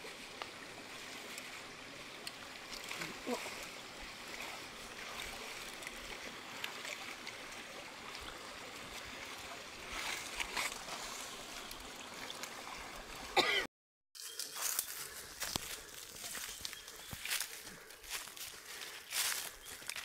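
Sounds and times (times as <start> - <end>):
stream water trickling: 0.0 - 20.0.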